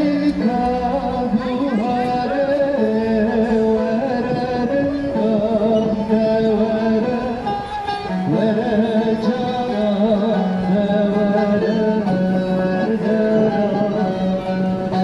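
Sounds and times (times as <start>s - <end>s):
man singing into a microphone: 0.0s - 15.0s
plucked lute strings: 0.0s - 15.0s.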